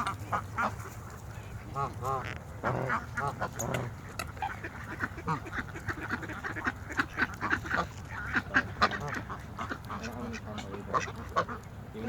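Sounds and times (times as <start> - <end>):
ducks quacking and honking: 0.0 - 12.0.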